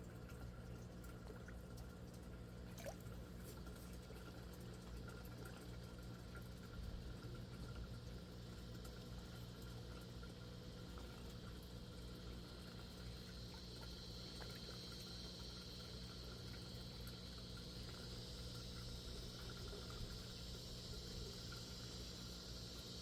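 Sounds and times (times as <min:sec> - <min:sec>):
water trickling: 0:00.0 - 0:22.8
low pump hum: 0:00.0 - 0:23.0.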